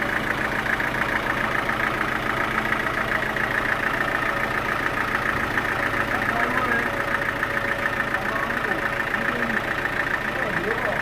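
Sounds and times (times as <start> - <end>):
sawmill machinery drone: 0.0 - 11.0.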